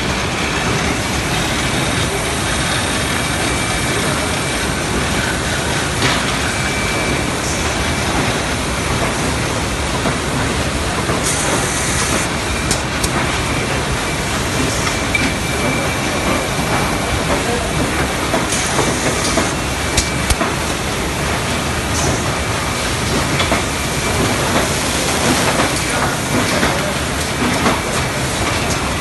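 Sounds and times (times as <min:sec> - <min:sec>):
machine clatter and hum: 0:00.0 - 0:29.0.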